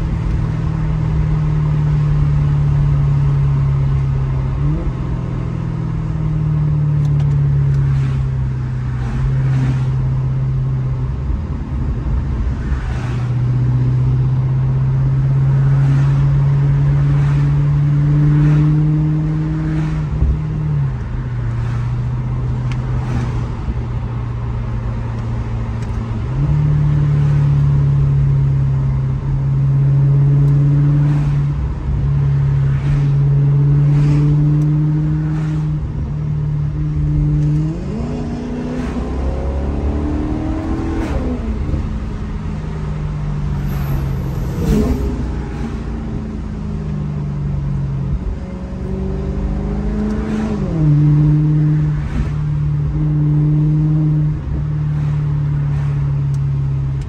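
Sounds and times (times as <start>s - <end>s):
car engine cruising: 0.0s - 57.0s.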